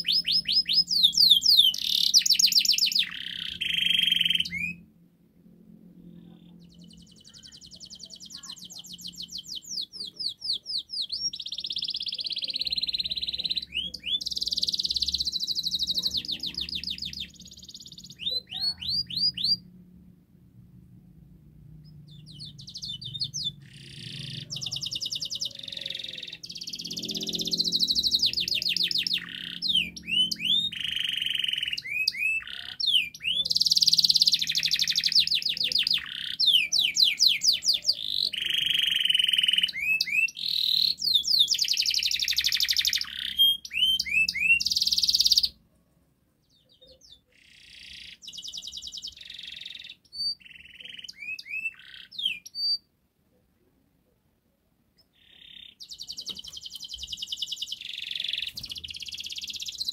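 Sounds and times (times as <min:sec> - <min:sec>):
canary singing trills: 0:00.0 - 0:04.9, 0:05.9 - 0:19.8, 0:21.7 - 0:45.6, 0:46.4 - 0:52.9, 0:55.0 - 0:59.9.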